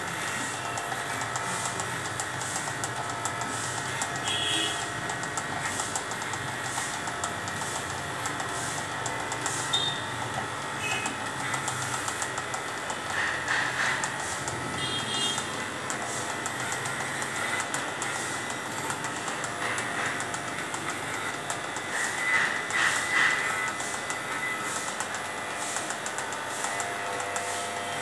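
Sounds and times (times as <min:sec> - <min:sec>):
electric hair clippers buzzing: 0:00.0 - 0:28.0.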